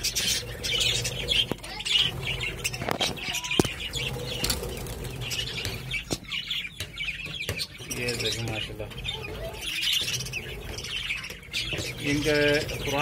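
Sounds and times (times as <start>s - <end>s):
budgerigars chirping and chattering: 0.0s - 13.0s
wings fluttering: 0.0s - 13.0s.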